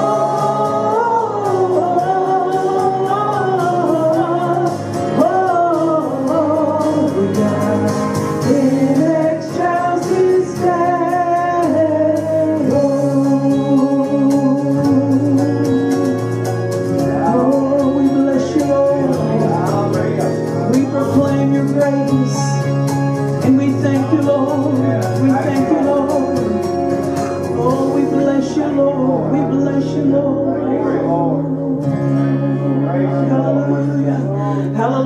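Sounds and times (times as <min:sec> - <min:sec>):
instrumental accompaniment: 0:00.0 - 0:35.0.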